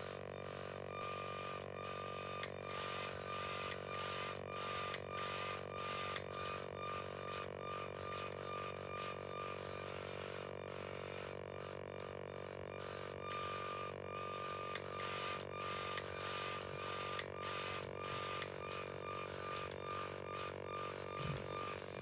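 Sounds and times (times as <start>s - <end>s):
servo motors whirring: 0.0s - 22.0s.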